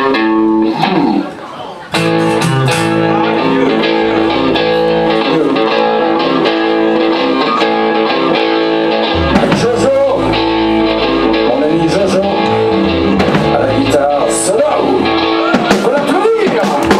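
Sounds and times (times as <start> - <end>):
bass guitar: 0.0 - 16.9
drums: 0.0 - 16.9
electric guitars: 0.0 - 16.9.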